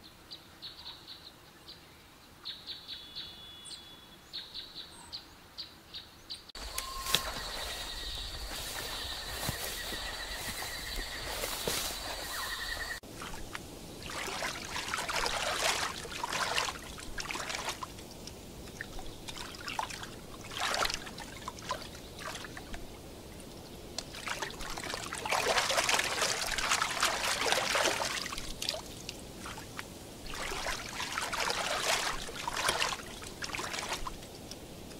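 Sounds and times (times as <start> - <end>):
water trickling and splashing: 6.6 - 34.9.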